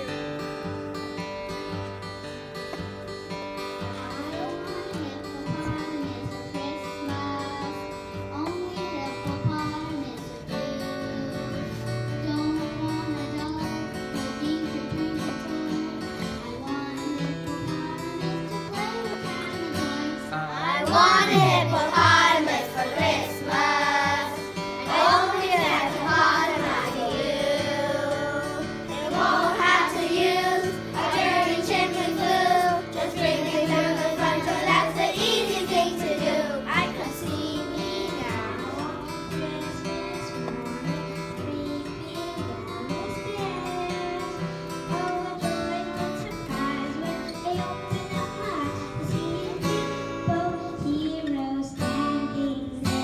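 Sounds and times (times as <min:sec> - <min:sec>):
instrumental accompaniment: 0:00.0 - 0:51.2
children singing together: 0:03.9 - 0:53.0.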